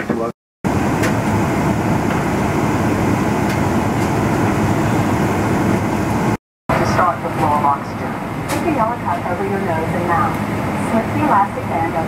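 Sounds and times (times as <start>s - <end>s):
aircraft cabin rumble and hiss: 0.0s - 12.0s.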